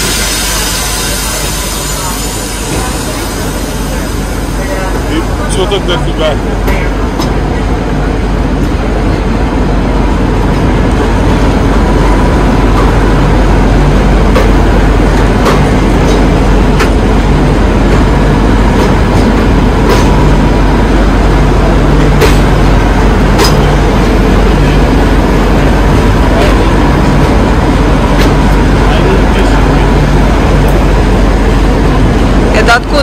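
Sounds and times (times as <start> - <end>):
train rumble inside carriage: 0.0 - 33.0.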